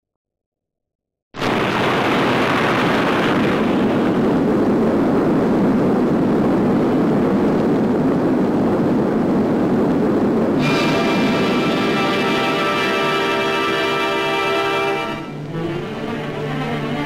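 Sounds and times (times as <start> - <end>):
atomic bomb roaring rumble: 1.4 - 17.0.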